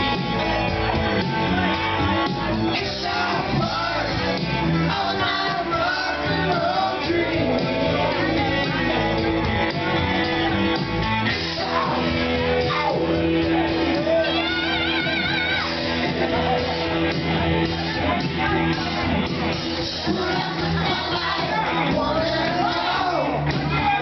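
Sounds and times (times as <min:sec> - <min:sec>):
rock backing track: 0:00.0 - 0:24.0
people singing along: 0:02.3 - 0:18.8, 0:19.8 - 0:24.0.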